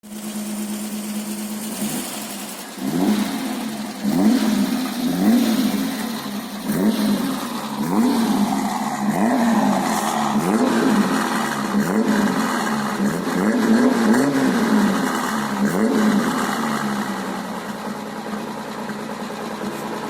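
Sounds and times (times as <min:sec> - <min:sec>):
car engine revving: 0:00.2 - 0:20.0.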